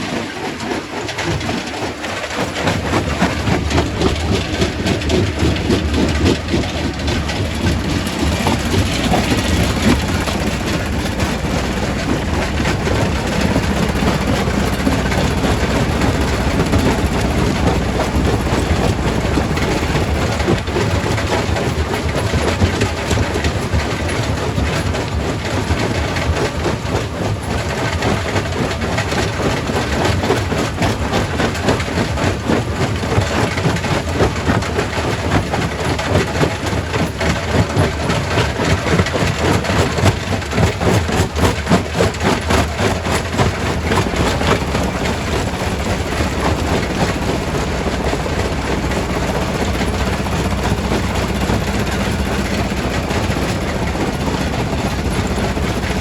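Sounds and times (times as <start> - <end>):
low machine hum: 0.0 - 56.0
rock crusher crunching rock: 0.0 - 56.0.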